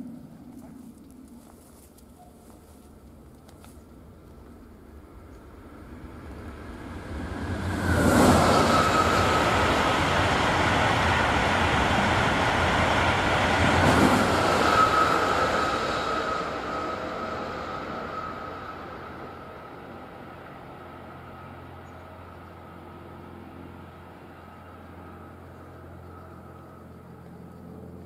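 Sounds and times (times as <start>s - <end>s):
electric train passing: 3.9s - 28.0s
high whine: 4.0s - 28.0s.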